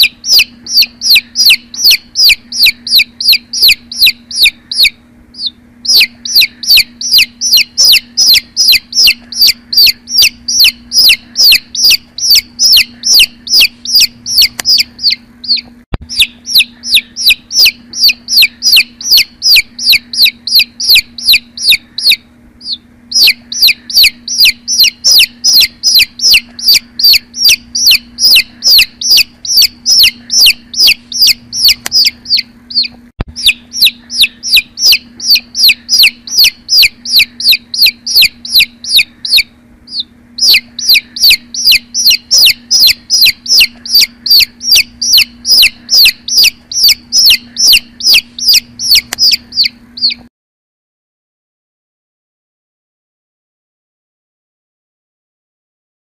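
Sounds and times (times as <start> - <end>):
baby chick peeping: 0.0 - 50.3.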